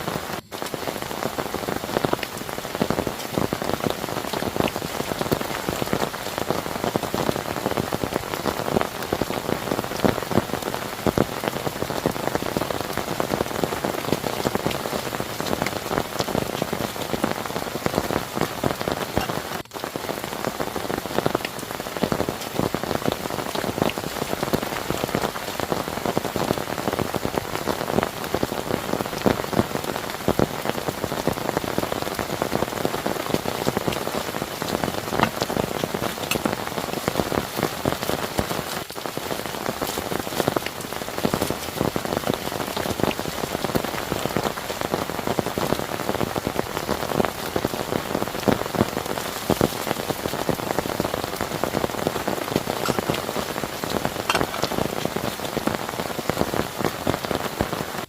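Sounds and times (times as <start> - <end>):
heavy rain falling: 0.0 - 58.0
raindrops hitting a surface: 0.0 - 58.0.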